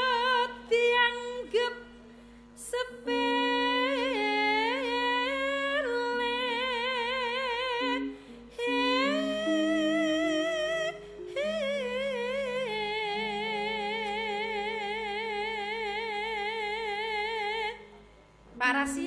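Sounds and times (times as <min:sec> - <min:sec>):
woman singing with vibrato: 0:00.0 - 0:17.9, 0:18.6 - 0:19.0
low sustained accompaniment: 0:00.0 - 0:19.0.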